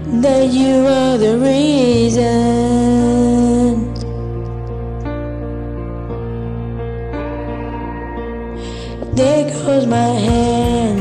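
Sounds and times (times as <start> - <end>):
instrumental backing track chords: 0.0 - 11.0.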